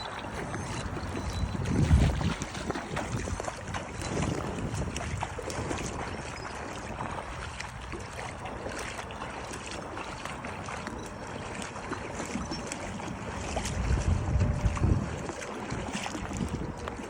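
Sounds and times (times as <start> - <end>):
water splashing against dock: 0.0 - 17.0.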